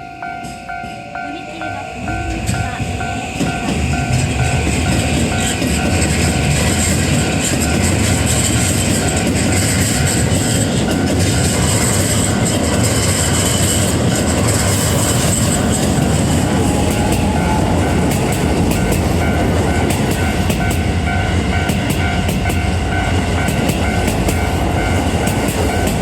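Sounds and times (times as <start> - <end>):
crossing warning bell ringing: 0.0 - 26.0
train wheels clattering: 0.0 - 26.0.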